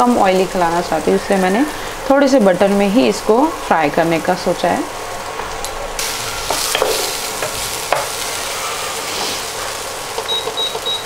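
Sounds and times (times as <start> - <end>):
potatoes sizzling in a pan: 0.0 - 11.0.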